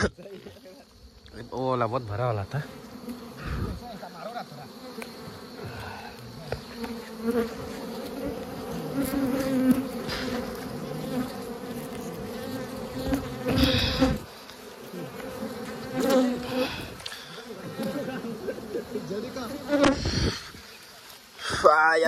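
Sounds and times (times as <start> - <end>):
swarm of bees buzzing: 2.1 - 21.0.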